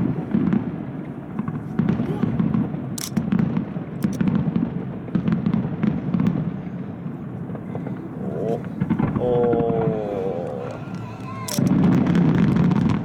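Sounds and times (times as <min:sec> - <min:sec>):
firework cracks and crackling: 0:00.0 - 0:13.0
firework shell booms: 0:00.0 - 0:13.0.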